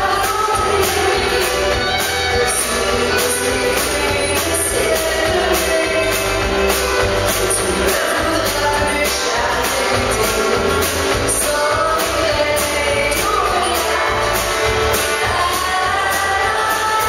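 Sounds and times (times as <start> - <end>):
bass guitar: 0.0 - 17.0
drums with steady beat: 0.0 - 17.0
fiddle: 0.0 - 17.0
woman singing into microphone: 0.0 - 17.0.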